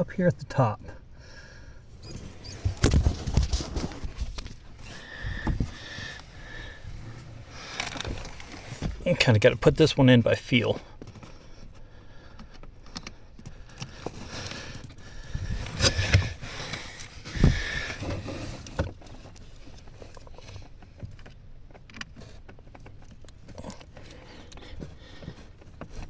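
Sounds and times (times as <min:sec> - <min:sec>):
screwdriver rustling and scraping: 0:01.8 - 0:09.6, 0:10.6 - 0:26.0.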